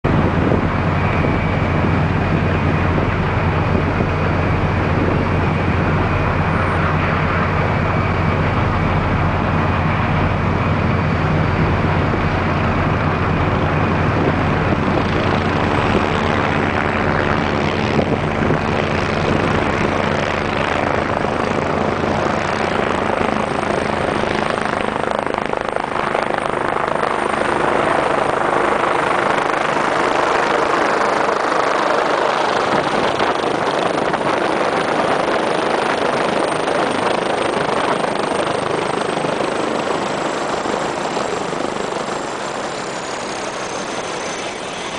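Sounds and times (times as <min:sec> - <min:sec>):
helicopter rotor and turbine: 0:00.0 - 0:44.9.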